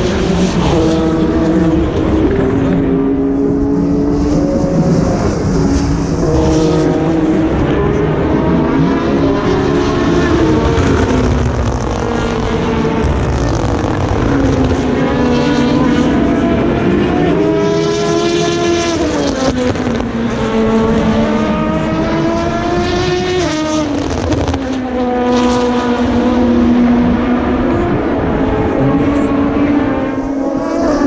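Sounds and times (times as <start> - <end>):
race cars accelerating past: 0.0 - 31.0.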